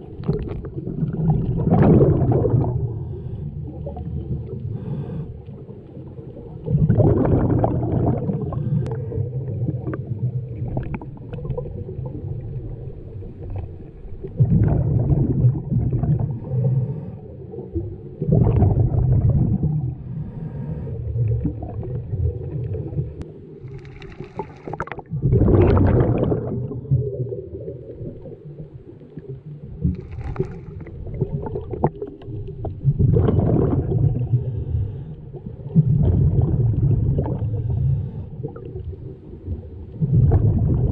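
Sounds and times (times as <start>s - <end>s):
exhaled bubbles rumbling underwater: 0.0s - 40.9s.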